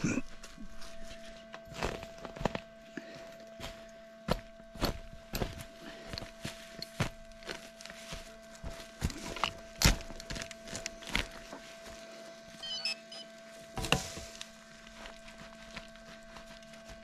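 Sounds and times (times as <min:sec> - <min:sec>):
crunching footsteps and digging: 0:00.0 - 0:12.7, 0:13.3 - 0:17.0
faint steady hum: 0:00.0 - 0:17.0.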